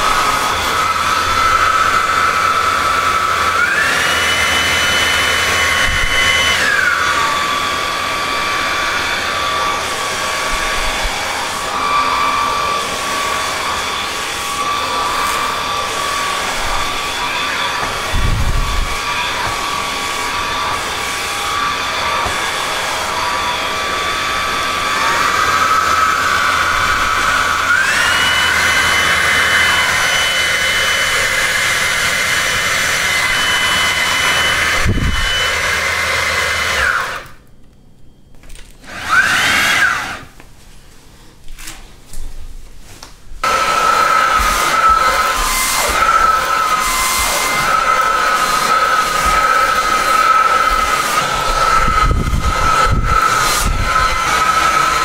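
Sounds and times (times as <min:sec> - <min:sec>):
vacuum cleaner motor whine: 0:00.0 - 0:40.6, 0:43.0 - 0:55.0.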